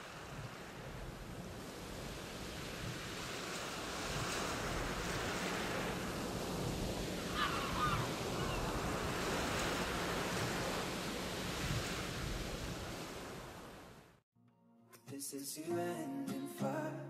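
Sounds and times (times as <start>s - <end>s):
ocean surf waves: 0.0s - 14.2s.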